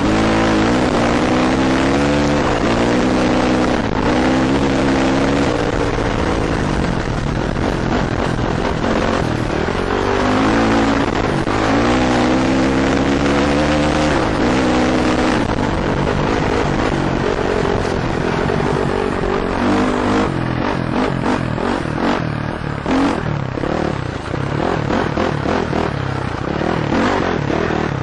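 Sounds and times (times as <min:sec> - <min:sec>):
dirt bike engine revving: 0:00.0 - 0:28.0
wind rushing over microphone: 0:00.0 - 0:28.0.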